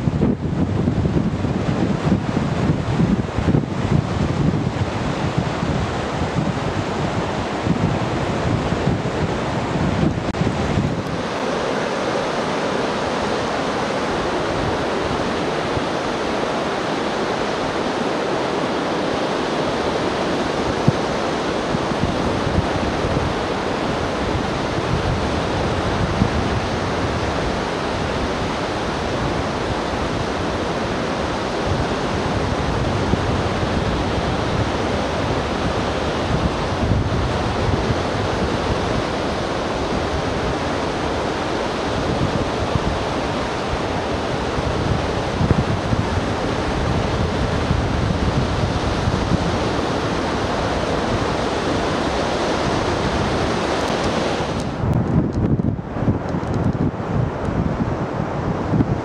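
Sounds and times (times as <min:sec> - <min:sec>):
surf breaking on a beach: 0:00.0 - 0:59.0
wind gusting on microphone: 0:00.0 - 0:59.0.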